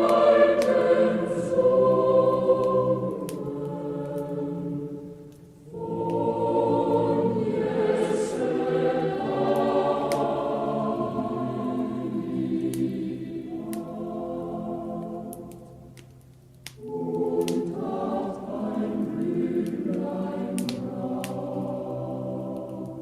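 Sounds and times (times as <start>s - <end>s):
choir singing held chords: 0.0s - 23.0s
crackling fireplace fire: 0.0s - 23.0s.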